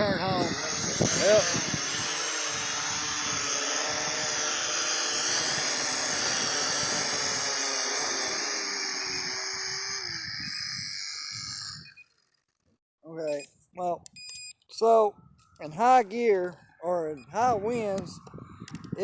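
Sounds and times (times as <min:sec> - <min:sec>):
wind buffeting microphone: 0:00.0 - 0:12.0, 0:15.0 - 0:15.6, 0:16.3 - 0:19.0
drone propellers whining: 0:00.0 - 0:12.6, 0:15.4 - 0:19.0.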